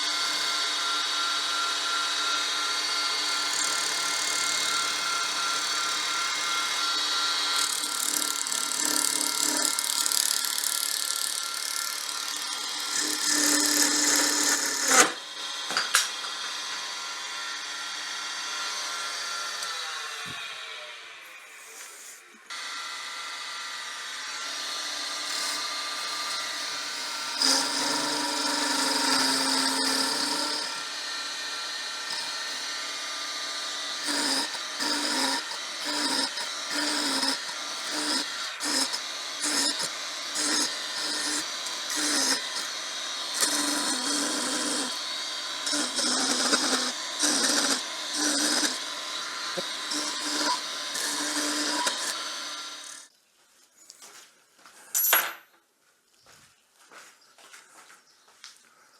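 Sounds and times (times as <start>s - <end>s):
cutter cutting spinning wood: 0.0s - 53.1s
wood lathe running: 0.0s - 53.1s.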